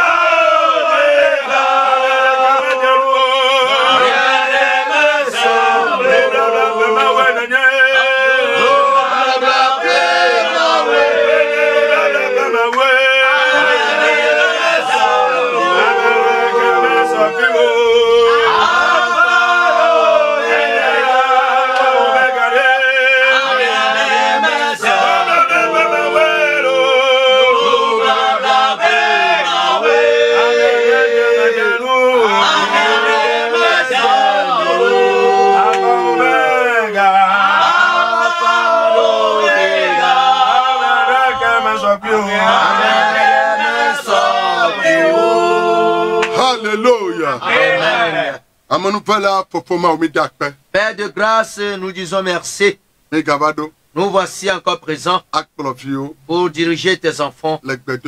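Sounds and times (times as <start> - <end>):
men singing unaccompanied: 0.0 - 48.9.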